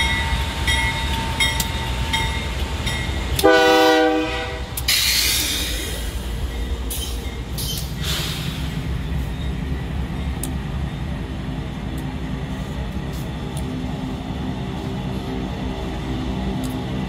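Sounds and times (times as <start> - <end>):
diesel locomotive engines rumbling: 0.0 - 17.0.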